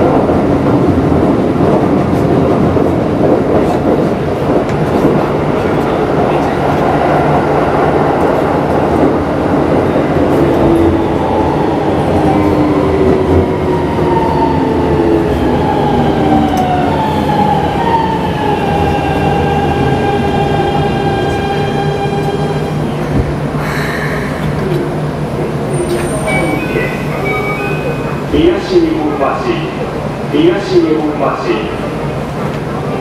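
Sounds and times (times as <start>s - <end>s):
train running rumble: 0.0s - 30.4s.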